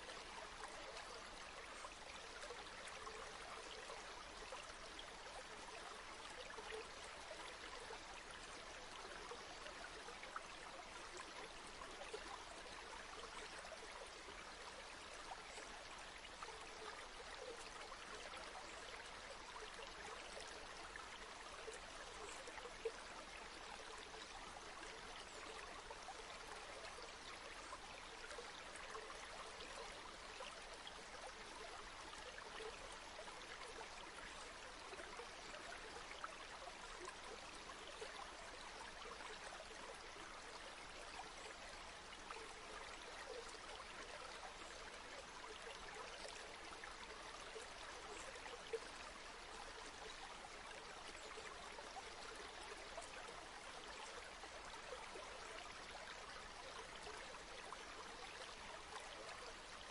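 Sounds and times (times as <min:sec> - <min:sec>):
faint running river water: 0:00.0 - 0:59.9.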